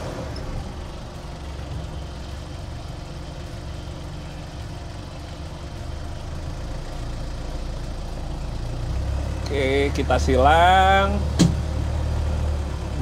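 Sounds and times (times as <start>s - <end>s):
vehicle engine running at low revs: 0.0s - 13.0s.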